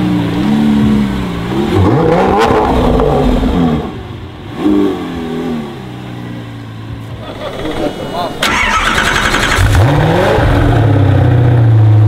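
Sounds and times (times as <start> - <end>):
sports car engine revving: 0.0 - 12.0.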